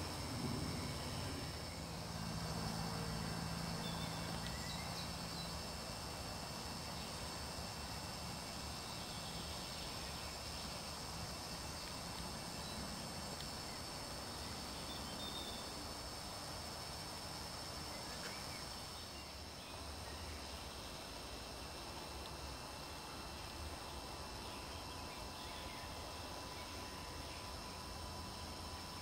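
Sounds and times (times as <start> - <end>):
riverside background noise: 0.0 - 29.0.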